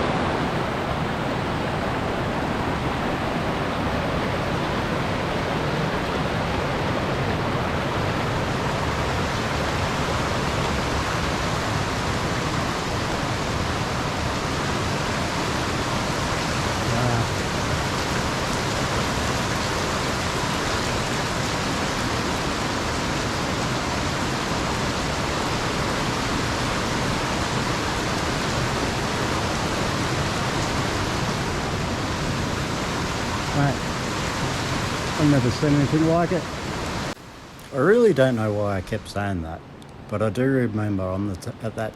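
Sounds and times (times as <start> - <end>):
creek water rushing over cascades: 0.0 - 40.1.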